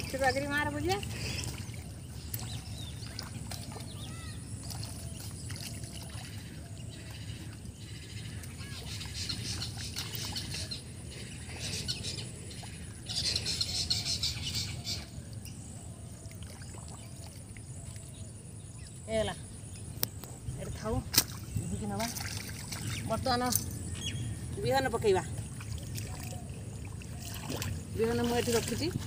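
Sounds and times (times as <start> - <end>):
birds chirping and chattering: 0.0 - 16.0, 16.6 - 29.0.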